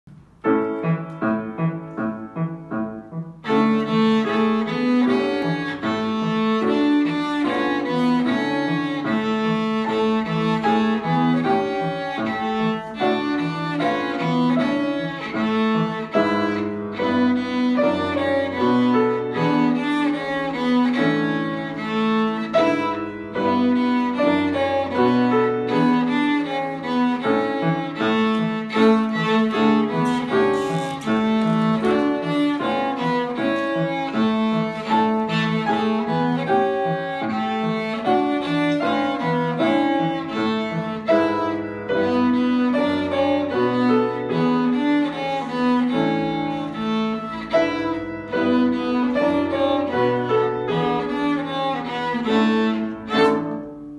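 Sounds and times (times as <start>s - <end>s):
cello melody: 0.0s - 53.9s
piano accompaniment: 0.0s - 53.9s.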